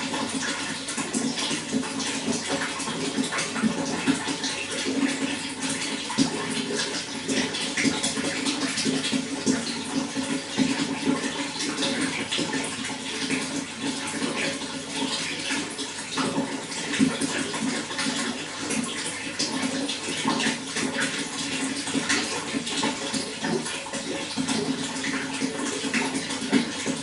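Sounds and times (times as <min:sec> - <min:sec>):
running water splashing: 0:00.0 - 0:27.0.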